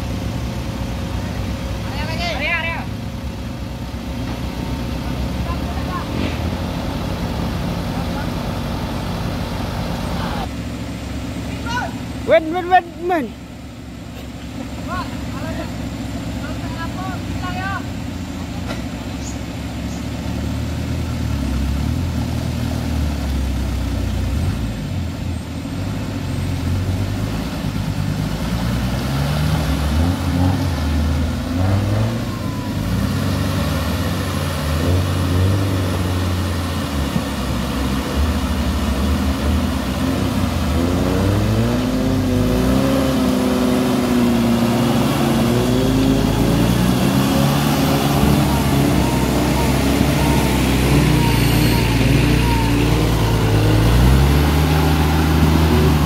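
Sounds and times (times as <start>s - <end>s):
off-road engines revving: 0.0s - 56.0s.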